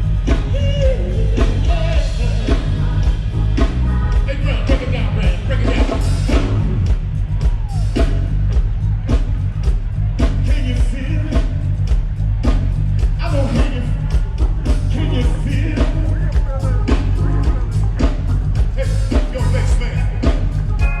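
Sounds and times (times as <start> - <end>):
rock and roll song with singer: 0.0 - 21.0.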